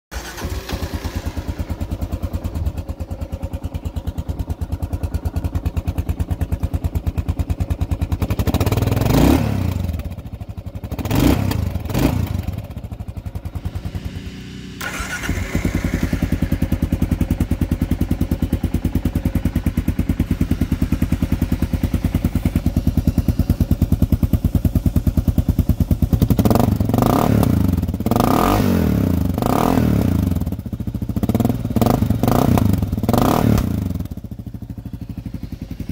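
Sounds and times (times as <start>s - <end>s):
motorcycle engine idling: 0.1s - 35.9s
motorcycle engine revving: 0.1s - 35.9s.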